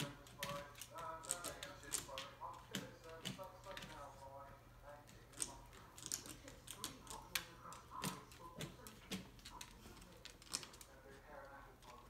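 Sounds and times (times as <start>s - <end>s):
dog claws scratching at door: 0.0s - 4.1s, 5.1s - 11.0s.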